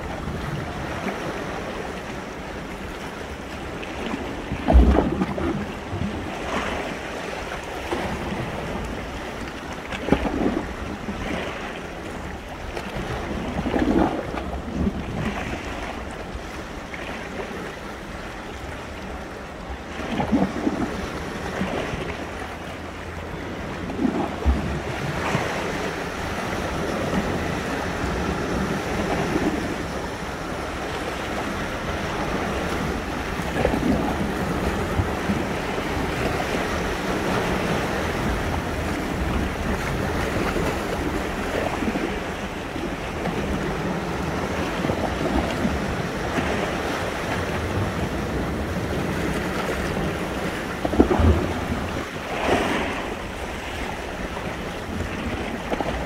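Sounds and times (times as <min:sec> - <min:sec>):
surf washing on shore: 0:00.0 - 0:56.0
waves breaking: 0:00.0 - 0:56.0
wind rumble on microphone: 0:00.0 - 0:56.0.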